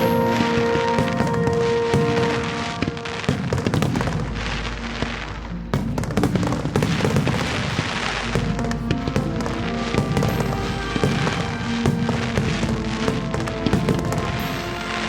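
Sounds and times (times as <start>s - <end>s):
fireworks bursting and crackling: 0.0s - 15.0s
music with held notes: 0.0s - 15.0s.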